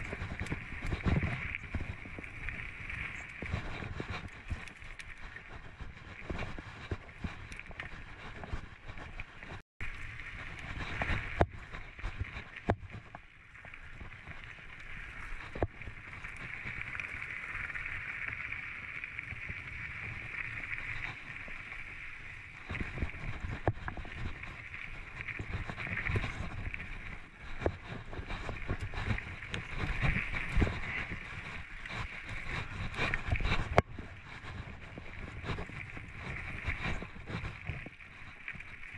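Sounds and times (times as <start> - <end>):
tyre and wind noise: 0.0 - 38.9.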